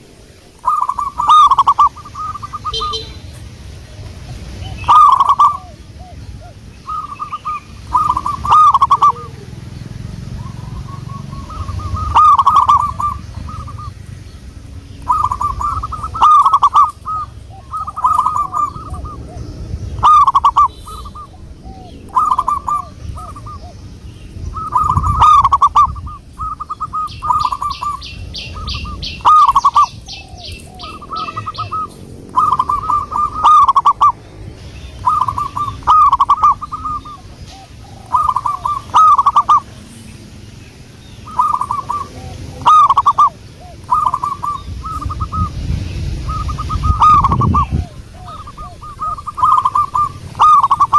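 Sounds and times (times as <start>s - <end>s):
dove cooing: 0.0s - 34.2s, 34.9s - 40.0s, 41.2s - 45.5s, 46.2s - 50.9s.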